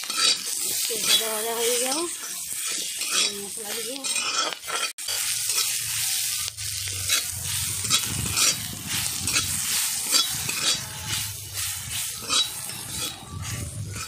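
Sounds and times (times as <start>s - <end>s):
metal spatula scraping a wok: 0.0s - 14.0s
onions sizzling in hot oil: 0.0s - 14.0s.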